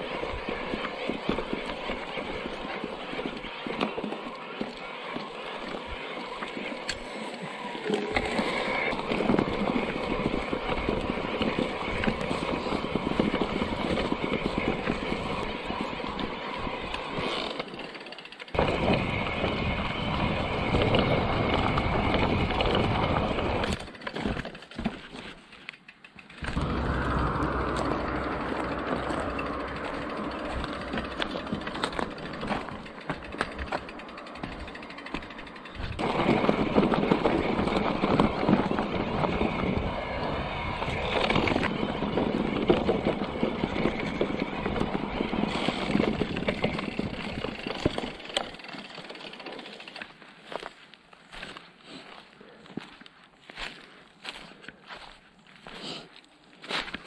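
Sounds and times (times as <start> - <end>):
bike rattling and jolting: 0.0 - 51.6
bike tyres rolling on gravel: 0.0 - 57.0.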